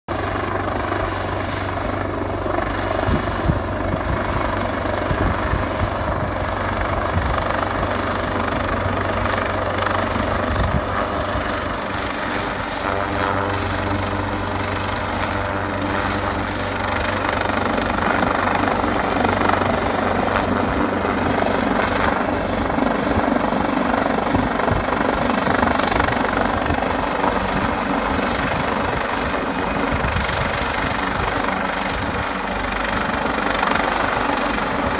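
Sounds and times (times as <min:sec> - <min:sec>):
helicopter rotors and engines: 0:00.1 - 0:34.9.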